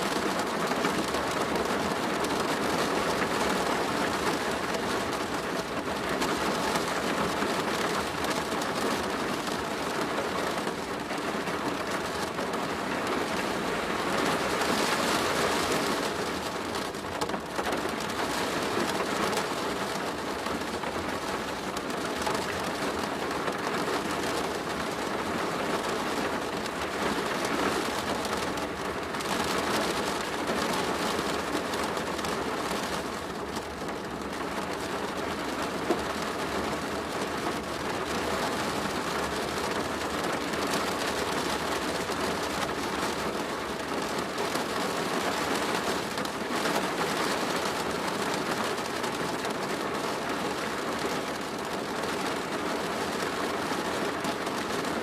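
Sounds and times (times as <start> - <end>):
rain on a plastic roof: 0.0 - 55.0.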